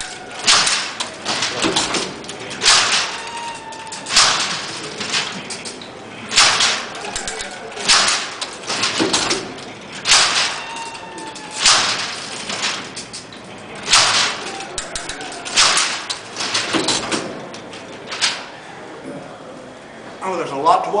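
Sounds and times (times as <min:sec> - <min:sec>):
loud crunching clack: 0:00.0 - 0:18.6
gear columns clattering: 0:00.0 - 0:19.0.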